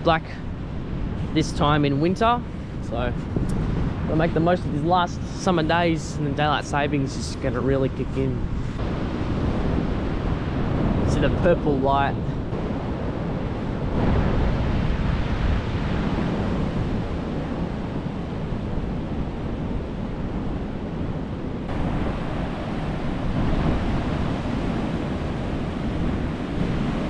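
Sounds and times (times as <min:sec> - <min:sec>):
wind rumbling on microphone: 0:00.0 - 0:27.0
surf washing on rocks: 0:00.8 - 0:27.0.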